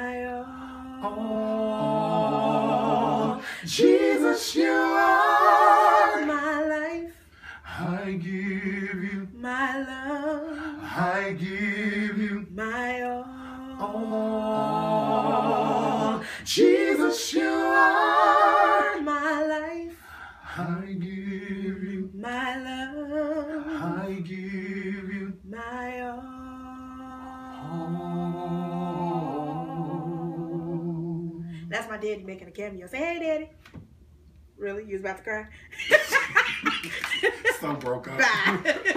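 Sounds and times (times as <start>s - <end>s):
group singing a cappella: 0.0s - 31.7s.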